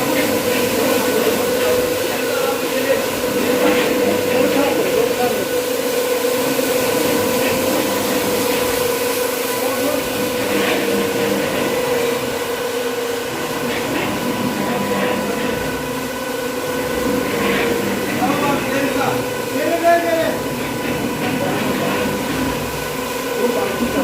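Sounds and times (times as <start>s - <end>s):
machinery motor hum: 0.0s - 24.0s.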